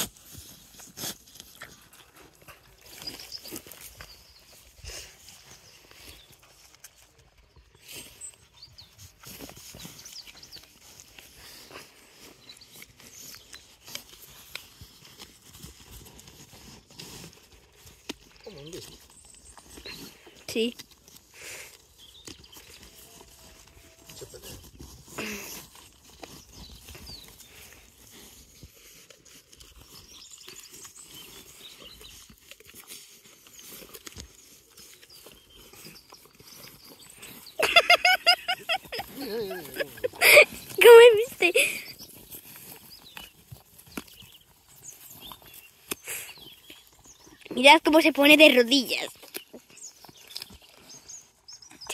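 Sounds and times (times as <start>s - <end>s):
sheep chewing crunchy food: 0.0s - 51.9s
sheep pulling at grass: 0.0s - 51.9s.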